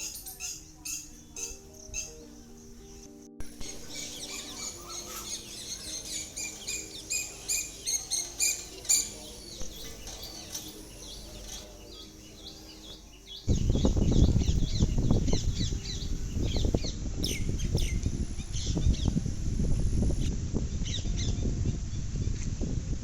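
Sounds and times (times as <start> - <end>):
small birds chirping: 0.0 - 21.4.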